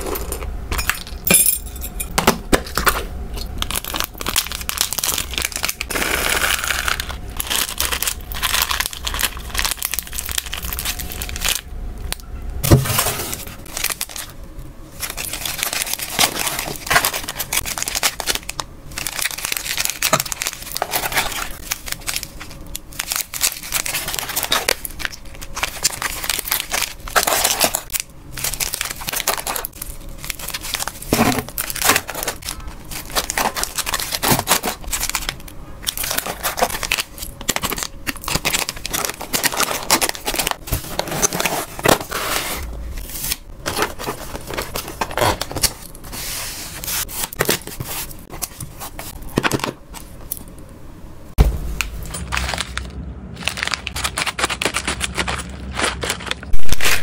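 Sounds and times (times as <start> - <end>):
plastic bags crinkling: 2.6 - 50.5, 51.8 - 57.0.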